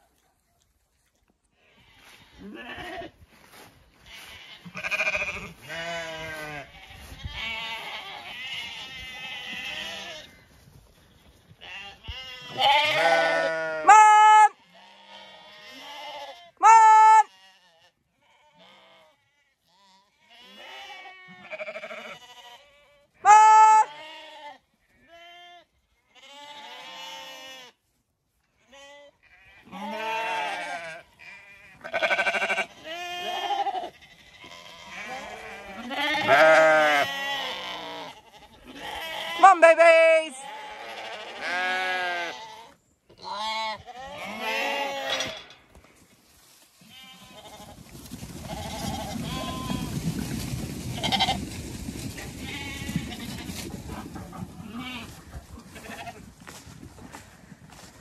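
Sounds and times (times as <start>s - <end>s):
sheep bleating: 1.6s - 10.4s, 11.6s - 27.8s, 28.6s - 45.4s, 46.8s - 47.8s, 48.5s - 50.0s, 51.0s - 51.4s, 52.4s - 53.6s, 54.2s - 56.2s.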